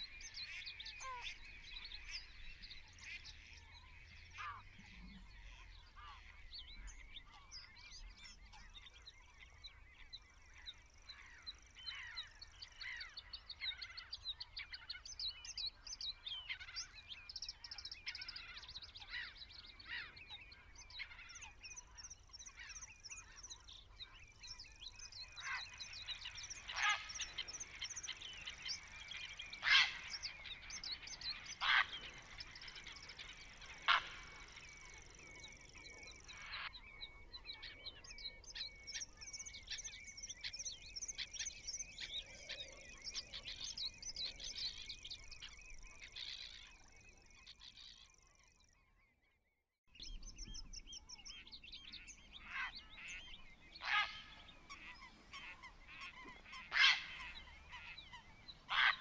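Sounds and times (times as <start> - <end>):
birds chirping: 0.0 - 48.9, 49.9 - 59.0.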